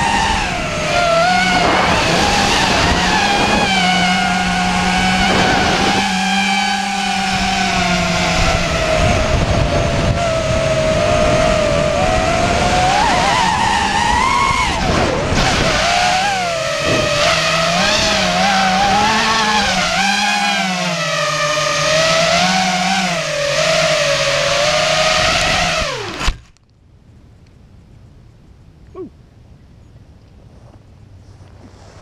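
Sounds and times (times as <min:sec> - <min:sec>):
quadcopter motors whining: 0:00.0 - 0:26.5.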